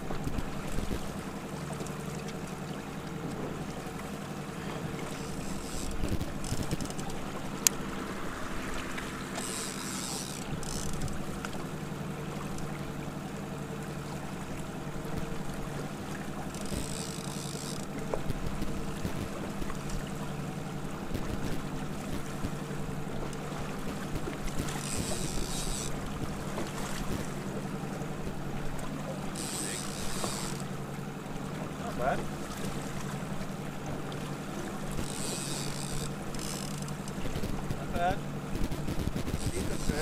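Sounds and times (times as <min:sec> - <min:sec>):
outboard engine running: 0:00.0 - 0:40.0
water noise: 0:00.0 - 0:40.0
wind: 0:00.0 - 0:40.0.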